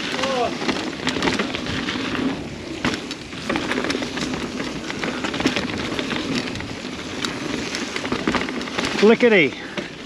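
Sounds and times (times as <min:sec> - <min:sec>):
bike rattling and clattering: 0:00.0 - 0:10.0
tyres crunching over dirt: 0:00.0 - 0:10.0.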